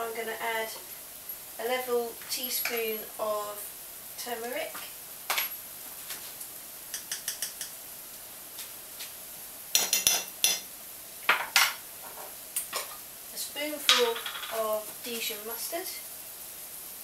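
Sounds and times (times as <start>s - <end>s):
leeks frying in oil: 0.0s - 17.0s.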